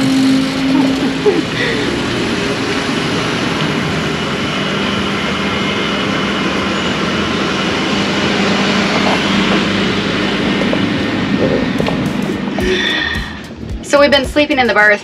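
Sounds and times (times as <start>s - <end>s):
engine drone: 0.0s - 15.0s
even hum: 0.0s - 15.0s.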